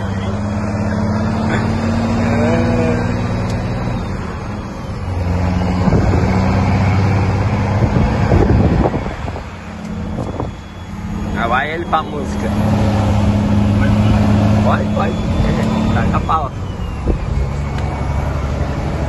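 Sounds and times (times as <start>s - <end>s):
truck diesel engine pulling away: 0.0s - 19.0s.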